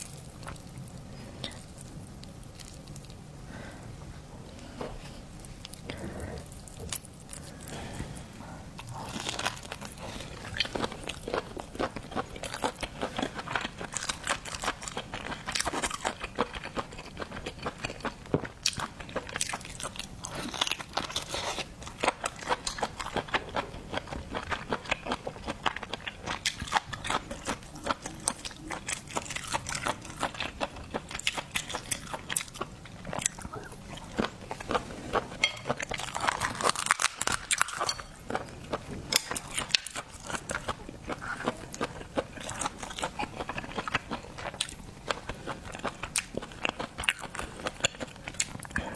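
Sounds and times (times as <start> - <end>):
close chewing and crunching: 0.0 - 3.3, 5.0 - 48.9.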